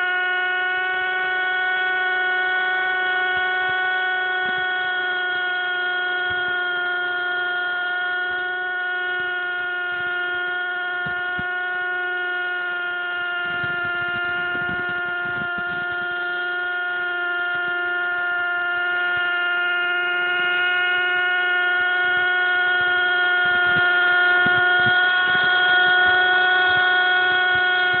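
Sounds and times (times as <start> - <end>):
model helicopter engine whine: 0.0 - 28.0.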